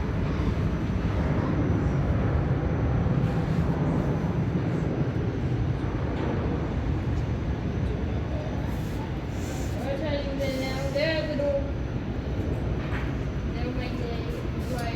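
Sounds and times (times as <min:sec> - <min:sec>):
jet engines roaring at take-off: 0:00.0 - 0:14.9.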